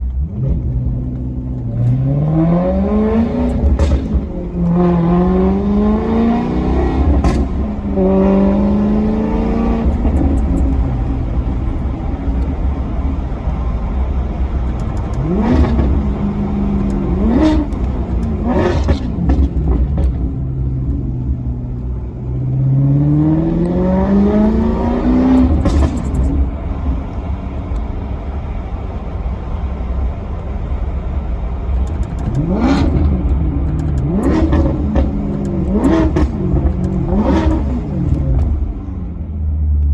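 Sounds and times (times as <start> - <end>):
engine revving: 0.0 - 27.1, 31.8 - 39.9
car engine accelerating: 0.0 - 39.9
steady low rumble: 0.0 - 39.9.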